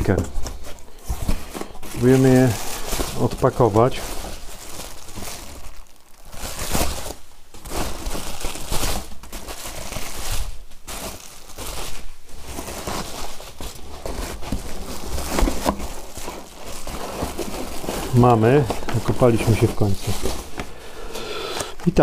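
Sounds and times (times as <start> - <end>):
plastic wrap crinkling: 0.0 - 22.0.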